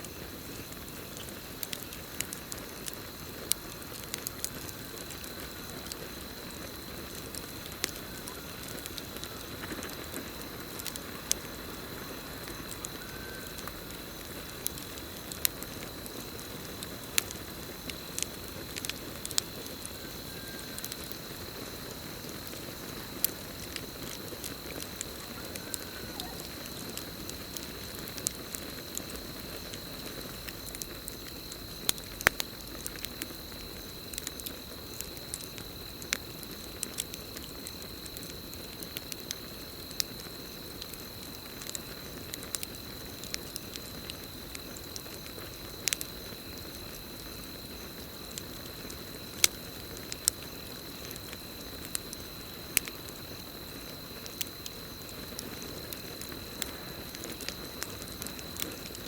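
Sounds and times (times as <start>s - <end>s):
campfire crackling and popping: 0.0s - 59.0s
cricket trill: 0.0s - 59.0s.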